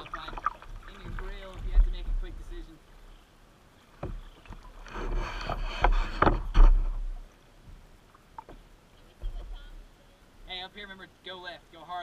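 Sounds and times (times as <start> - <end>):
paddle strokes splashing: 0.0 - 10.6.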